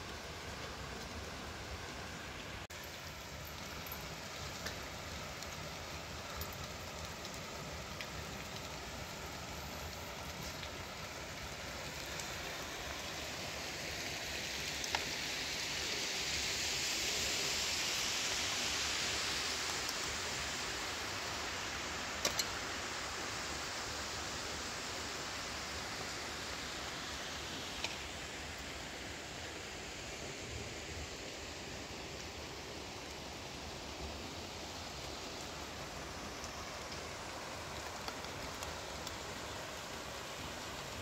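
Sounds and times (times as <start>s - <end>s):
stream and waterfall rushing: 0.0s - 41.0s.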